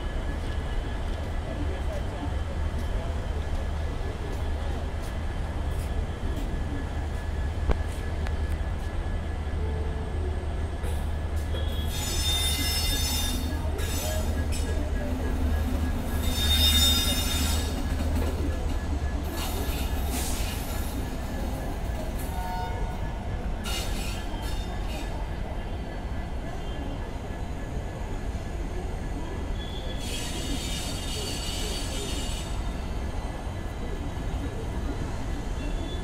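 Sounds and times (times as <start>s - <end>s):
train wheels squealing on rails: 0.0s - 36.0s.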